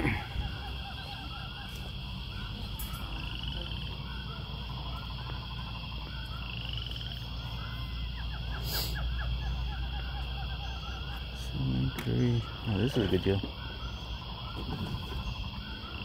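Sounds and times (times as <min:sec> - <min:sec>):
frog-like croaks: 0:00.0 - 0:16.0
steady low hum: 0:00.0 - 0:16.0.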